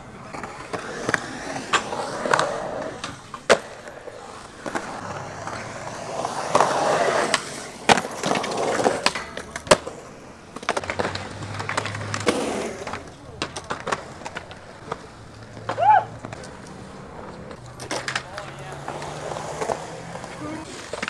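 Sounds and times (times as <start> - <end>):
skateboard clacking on ground: 0.0 - 21.0
skateboard wheels rolling on concrete: 0.0 - 21.0.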